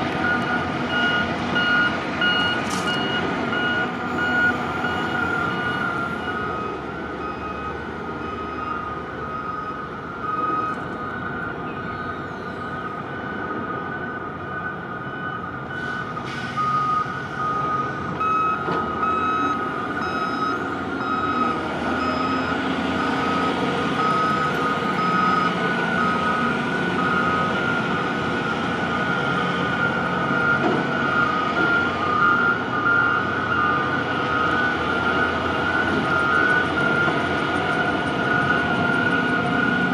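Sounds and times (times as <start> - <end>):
machinery warning beepers: 0.2 - 39.9.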